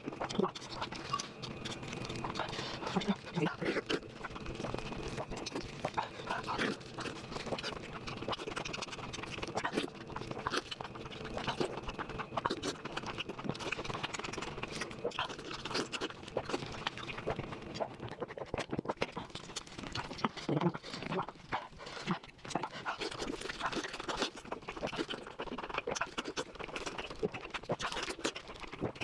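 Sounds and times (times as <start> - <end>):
food chewing and crunching: 0.0 - 29.0.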